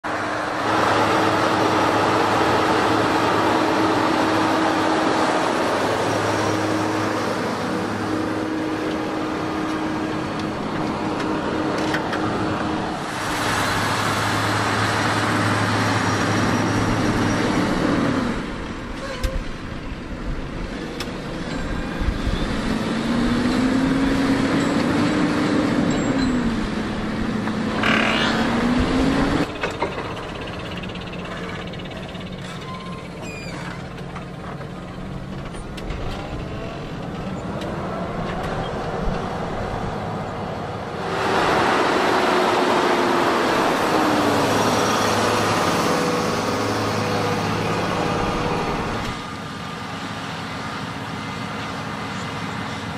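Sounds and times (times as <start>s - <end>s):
tractor diesel engine under load: 0.0s - 52.9s.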